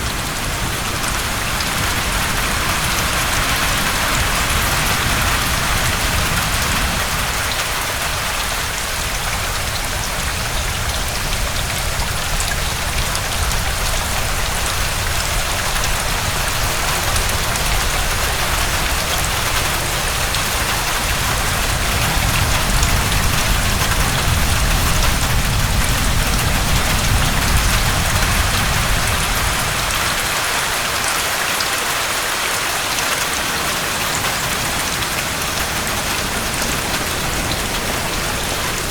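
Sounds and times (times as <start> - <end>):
low wind rumble: 0.0 - 31.4, 32.8 - 38.9
heavy rain falling: 0.0 - 38.9.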